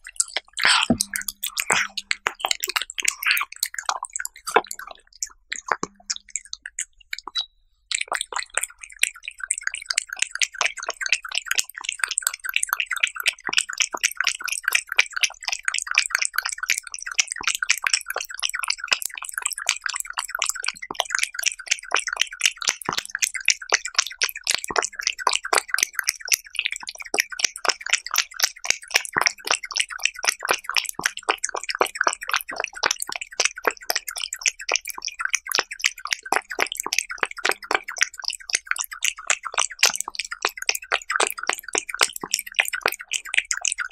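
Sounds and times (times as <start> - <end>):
cat chewing wetly: 0.0 - 43.9.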